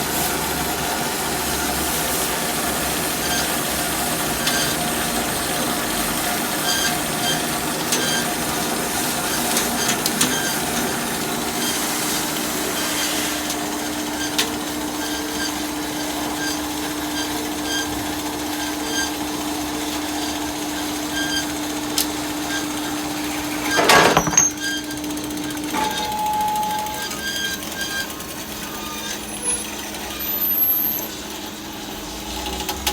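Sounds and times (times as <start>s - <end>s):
boring machine cutting metal: 0.0s - 32.9s.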